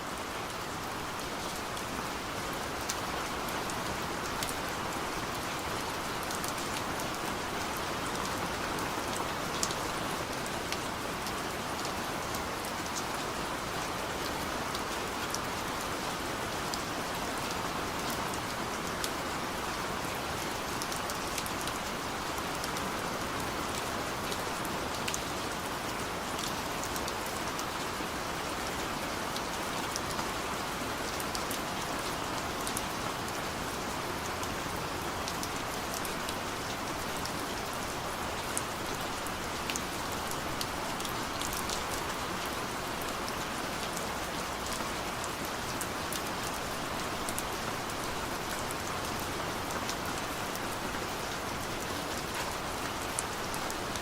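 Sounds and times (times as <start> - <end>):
heavy rain downpour: 0.0 - 54.0.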